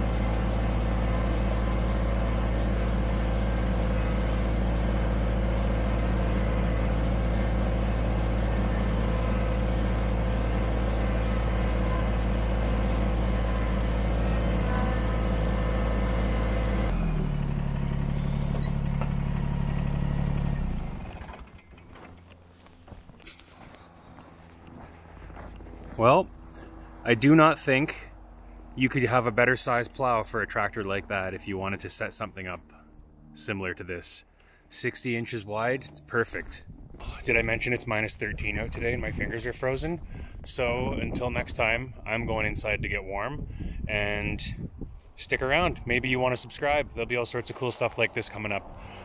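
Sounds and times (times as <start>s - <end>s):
tractor diesel engine running: 0.0s - 42.8s, 43.5s - 49.0s.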